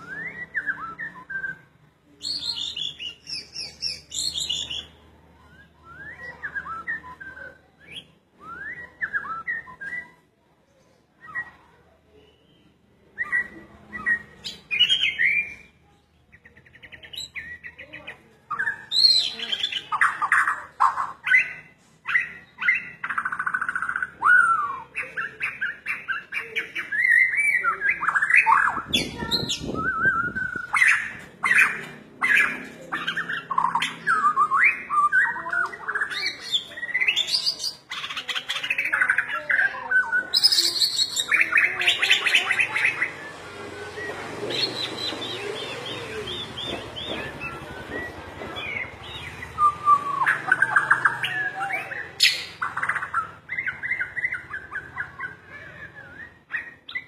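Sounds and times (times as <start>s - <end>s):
bird singing varied song: 0.0s - 57.0s.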